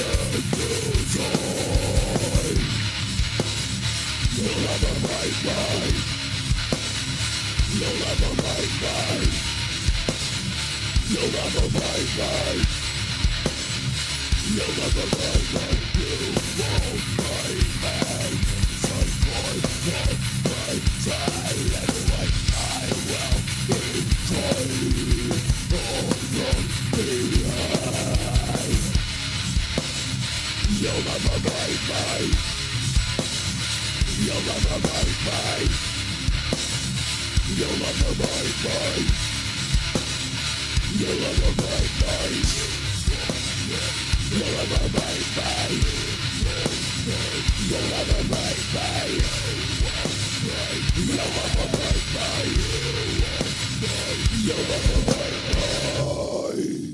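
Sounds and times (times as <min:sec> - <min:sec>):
fast dense drumming: 0:00.0 - 0:56.4
distorted electric guitars: 0:00.0 - 0:56.9.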